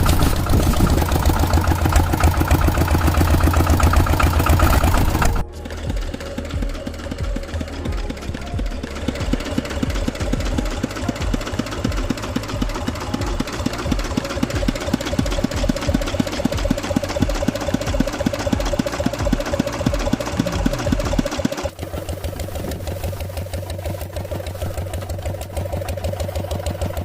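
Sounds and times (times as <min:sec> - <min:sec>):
engine chugging: 0:00.0 - 0:27.0.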